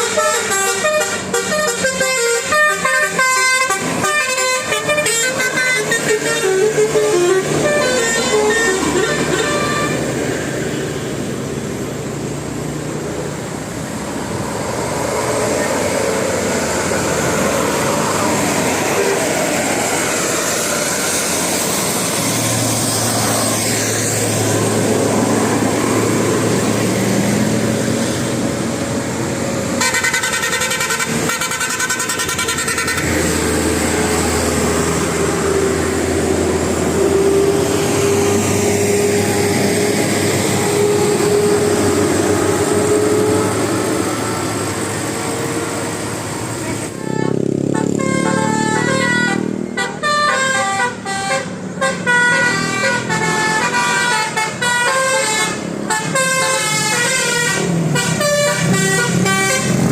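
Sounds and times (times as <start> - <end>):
bus air horns: 0.0 - 10.8, 15.4 - 26.9, 29.6 - 59.9
street traffic noise: 0.0 - 59.9.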